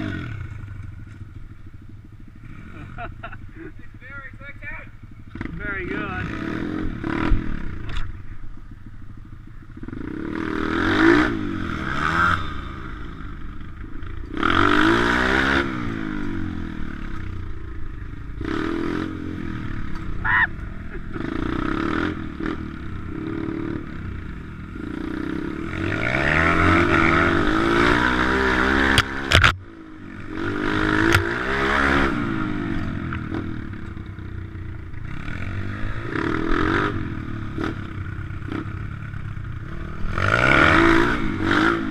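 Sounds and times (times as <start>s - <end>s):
pit bike engine revving: 0.0s - 1.2s, 2.3s - 41.9s.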